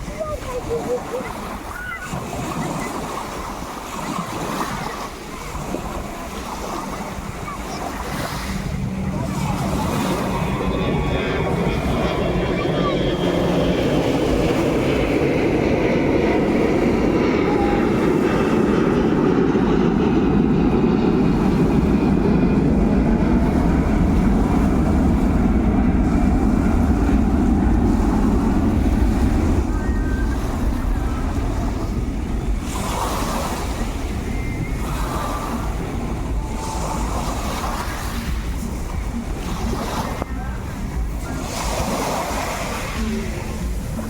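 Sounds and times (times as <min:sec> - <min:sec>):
boat engine hum: 0:00.0 - 0:44.0
water rushing: 0:00.0 - 0:44.0
wind buffeting microphone: 0:00.0 - 0:44.0.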